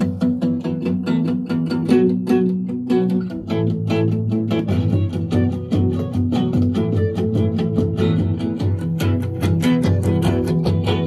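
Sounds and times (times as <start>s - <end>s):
plucked guitar notes: 0.0s - 11.0s.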